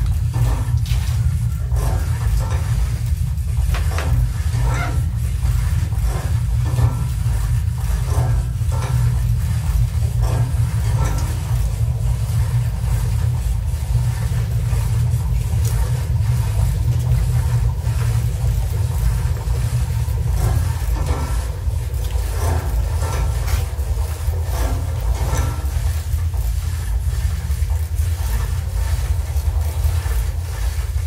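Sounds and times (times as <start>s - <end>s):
low rumbling drone: 0.0s - 31.0s.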